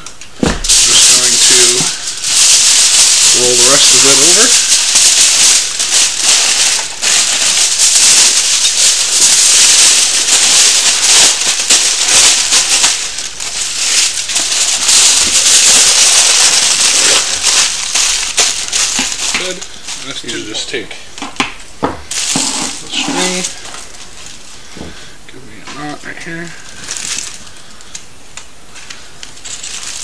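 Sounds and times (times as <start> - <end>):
aluminium foil crinkling: 0.0 - 30.0.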